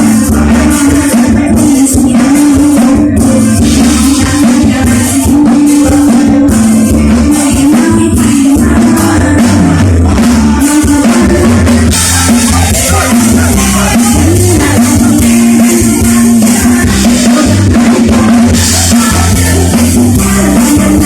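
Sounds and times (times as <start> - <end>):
bass: 0.0 - 21.0
drum kit: 0.0 - 21.0
woman singing: 0.0 - 21.0.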